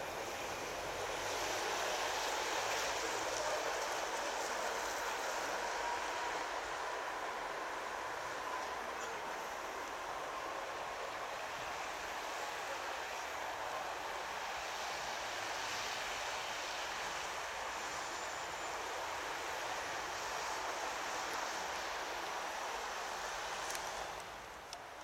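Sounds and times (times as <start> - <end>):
electric train rushing: 0.0 - 24.2.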